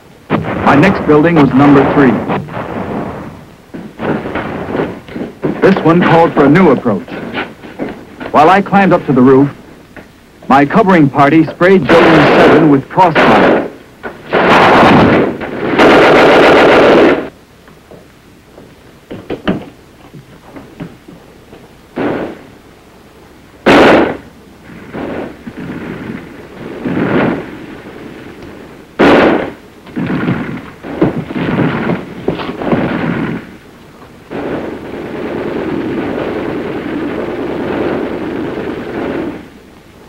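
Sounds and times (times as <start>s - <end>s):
steady noise: 0.0s - 40.0s
gunshots and short bursts: 0.3s - 9.6s, 10.5s - 17.4s, 21.9s - 22.6s, 23.6s - 39.6s.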